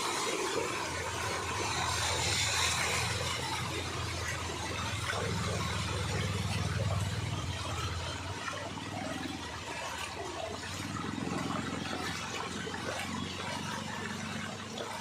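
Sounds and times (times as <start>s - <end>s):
floodwater rushing and splashing: 0.0s - 15.0s.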